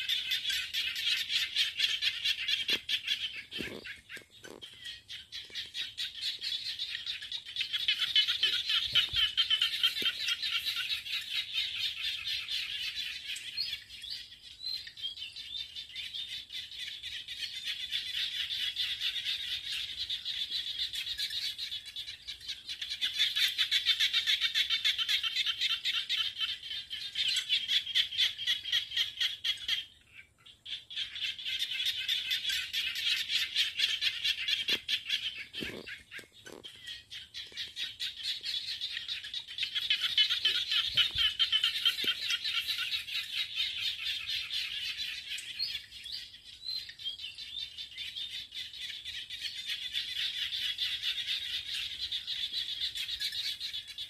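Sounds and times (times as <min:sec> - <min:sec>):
frogs calling: 0:00.0 - 0:54.0.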